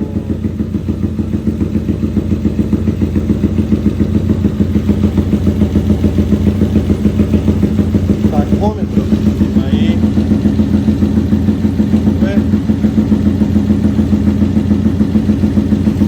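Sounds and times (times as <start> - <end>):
single-cylinder engine idling: 0.0 - 16.0.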